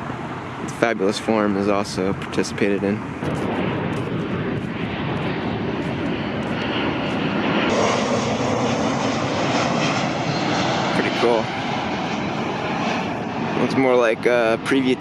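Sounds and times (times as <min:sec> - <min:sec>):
airliner roaring overhead: 0:00.0 - 0:15.0.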